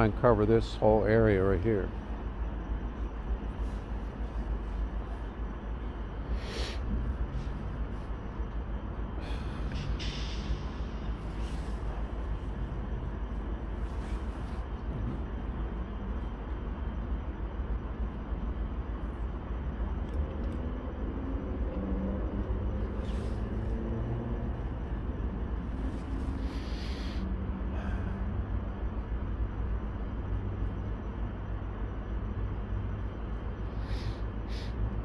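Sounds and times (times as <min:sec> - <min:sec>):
faint engine hum: 0:00.0 - 0:35.0
steady low rumble: 0:00.0 - 0:35.0.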